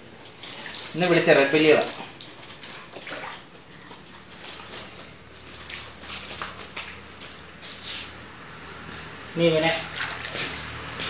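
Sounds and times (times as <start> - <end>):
water splashing into a tank: 0.0 - 7.6, 9.5 - 11.0.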